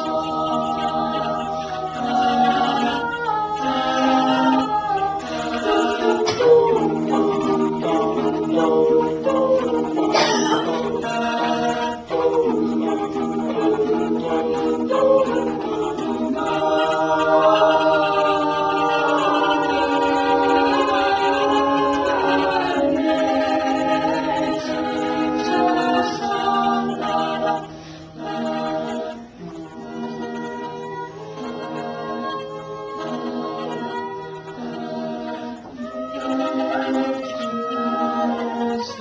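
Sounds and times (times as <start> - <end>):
a cappella group singing: 0.0 - 39.0.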